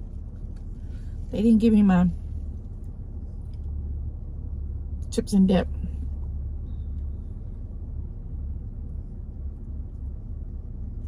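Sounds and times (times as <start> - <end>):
car engine rumble inside cabin: 0.0 - 11.0.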